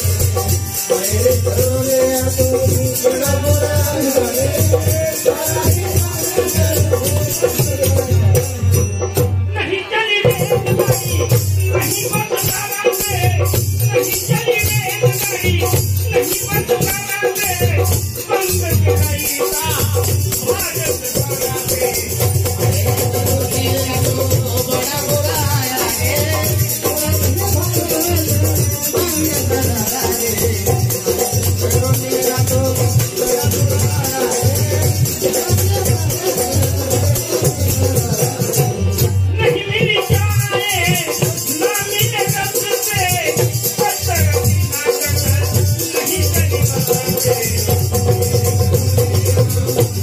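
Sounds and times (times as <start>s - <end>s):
shaker-like percussion: 0.0s - 9.4s, 10.2s - 50.0s
dholak beat: 0.0s - 50.0s
man singing into microphone: 0.0s - 50.0s.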